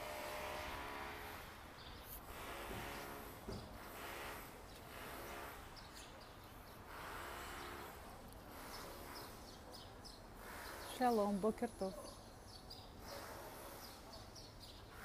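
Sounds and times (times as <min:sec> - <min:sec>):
distant city noise: 0:00.0 - 0:15.0.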